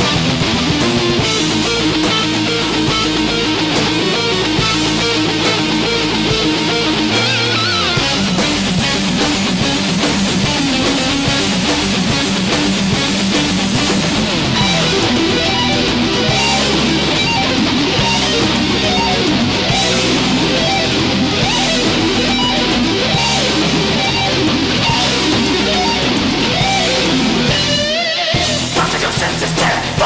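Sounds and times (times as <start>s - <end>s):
distorted electric guitar riffing: 0.0s - 30.0s.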